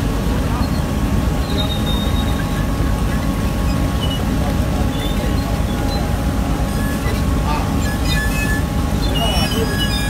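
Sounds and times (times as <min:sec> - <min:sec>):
boat machinery rumble: 0:00.0 - 0:10.0.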